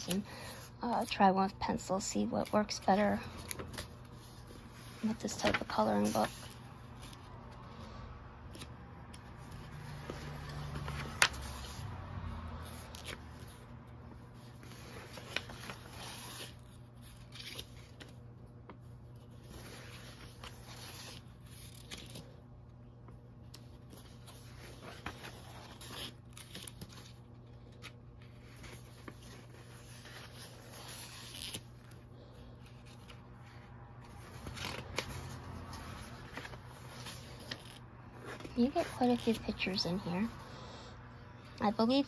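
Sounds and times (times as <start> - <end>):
book pages turning: 0.0 - 40.4.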